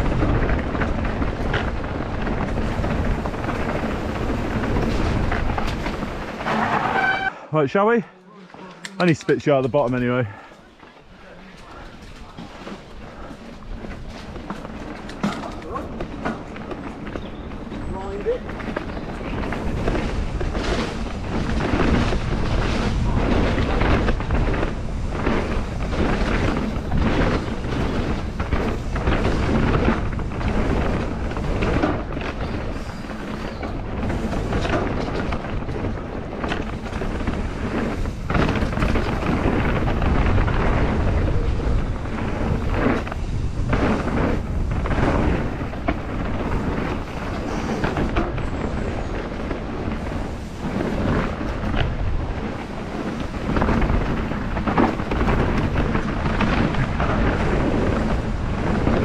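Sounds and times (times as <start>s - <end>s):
wind buffeting microphone: 0.0s - 6.7s, 9.4s - 59.0s
bike rattling over rocks: 0.0s - 7.3s, 9.0s - 59.0s
bike tyres rumbling: 0.0s - 8.0s, 9.0s - 59.0s.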